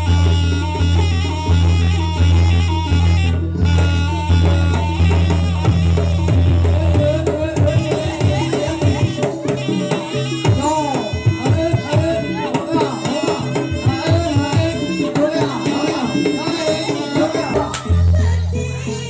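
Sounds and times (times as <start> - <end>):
hand drums beating fast rhythm: 0.0 - 19.0
pitch-bending melodic lines: 1.3 - 18.4.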